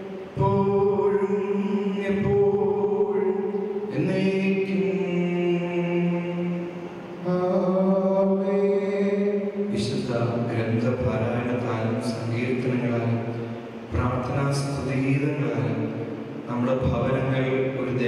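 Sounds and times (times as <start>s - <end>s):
slow liturgical chant: 0.0s - 18.0s.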